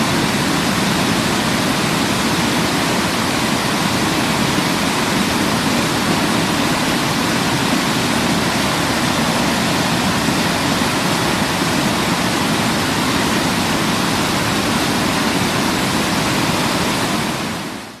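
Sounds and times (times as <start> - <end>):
waterfall crashing: 0.0 - 18.0.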